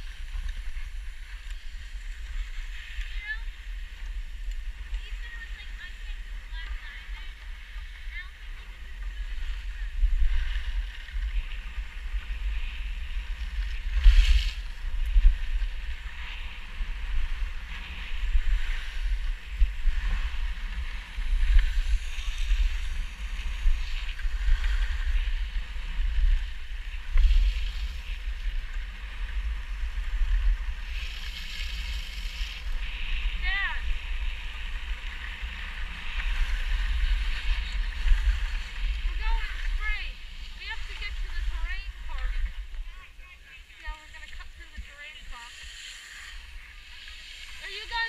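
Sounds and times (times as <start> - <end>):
skis scraping on snow: 0.0 - 48.0
wind buffeting microphone: 0.0 - 48.0.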